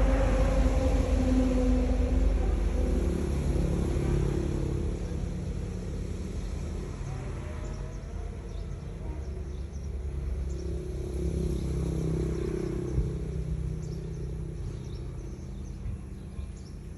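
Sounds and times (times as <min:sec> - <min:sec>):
marine diesel engine rumbling: 0:00.0 - 0:16.9.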